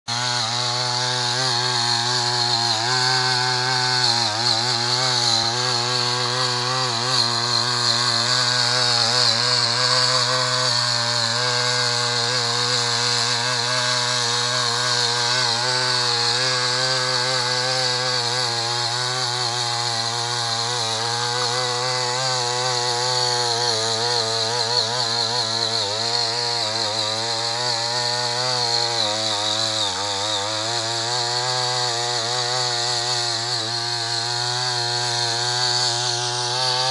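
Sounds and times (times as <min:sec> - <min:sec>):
tiller engine running under load: 0:00.1 - 0:36.9
tines digging through soil: 0:00.1 - 0:36.9.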